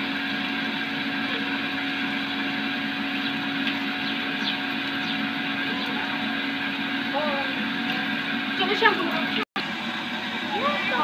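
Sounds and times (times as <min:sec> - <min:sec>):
motor hum: 0:00.0 - 0:11.0.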